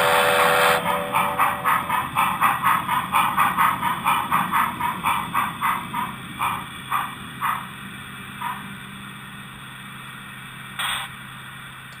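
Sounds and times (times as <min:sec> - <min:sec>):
low hum of model train: 0:00.0 - 0:12.0
model steam locomotive chuffing: 0:00.0 - 0:12.0.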